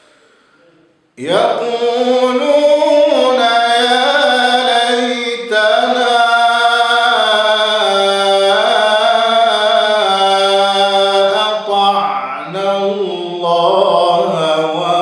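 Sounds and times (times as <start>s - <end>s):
man reciting melodically: 1.2s - 15.0s.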